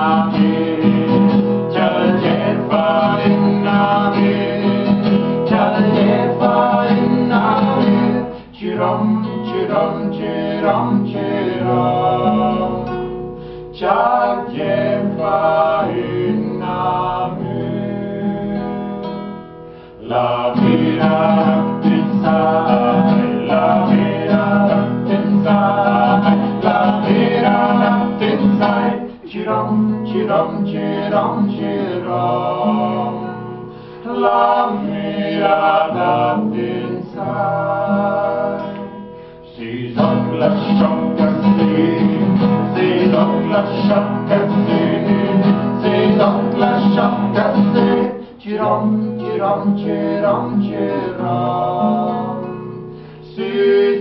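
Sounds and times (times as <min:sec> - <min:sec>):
two men singing: 0:00.0 - 0:19.4, 0:20.0 - 0:52.6, 0:53.2 - 0:54.0
strummed acoustic guitar: 0:00.0 - 0:54.0.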